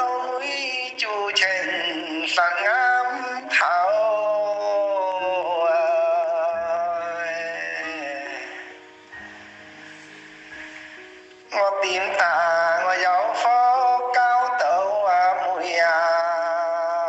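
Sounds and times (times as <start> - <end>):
person singing a long note: 0.0 - 10.0, 11.4 - 17.0
sustained backing tones: 0.0 - 17.0.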